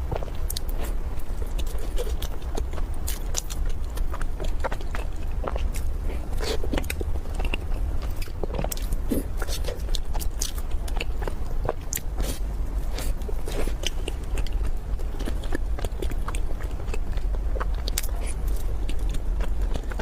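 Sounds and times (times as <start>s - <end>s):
biting and chewing bun: 0.0s - 20.0s
steady low hum: 0.0s - 20.0s.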